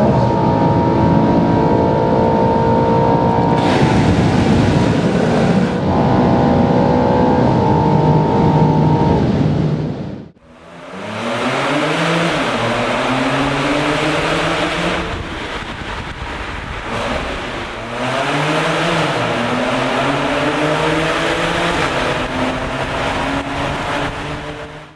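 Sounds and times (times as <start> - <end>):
car engine accelerating: 0.0 - 24.9.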